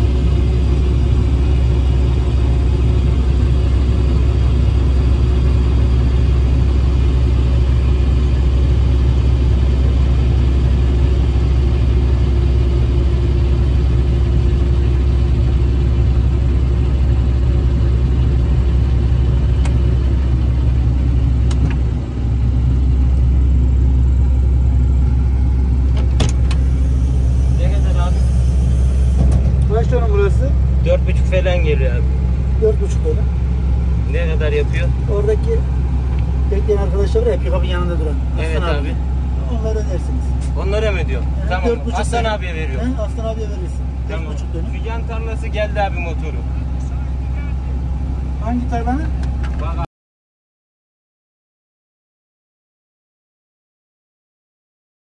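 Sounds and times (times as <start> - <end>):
combine harvester engine rumble: 0.0 - 49.9.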